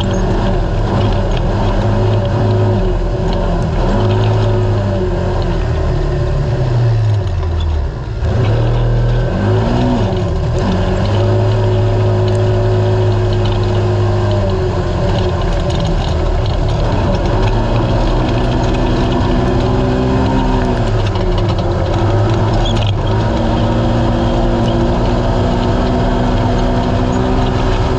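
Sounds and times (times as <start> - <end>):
off-road vehicle engine running hard: 0.0 - 27.9
wind and terrain noise: 0.0 - 27.9.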